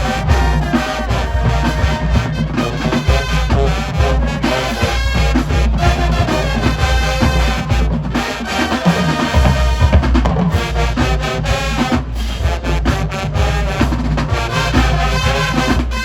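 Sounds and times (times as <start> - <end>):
marching band brass chords: 0.0 - 16.0
pulsing bass drums: 0.0 - 16.0.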